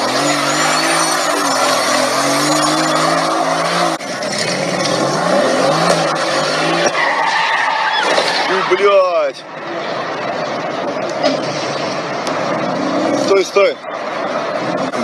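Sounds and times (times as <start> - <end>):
car engine revving: 0.0 - 15.0
road and tyre noise: 0.0 - 15.0.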